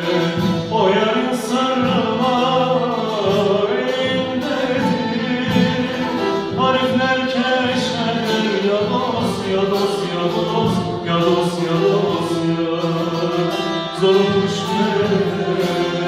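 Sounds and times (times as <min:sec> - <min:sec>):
folk instrumental accompaniment: 0:00.0 - 0:16.0
voices singing together: 0:00.0 - 0:16.0.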